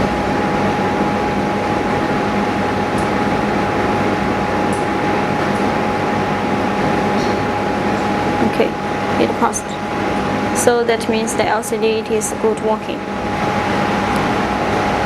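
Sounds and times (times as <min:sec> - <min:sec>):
machine hum and whine: 0:00.0 - 0:15.0.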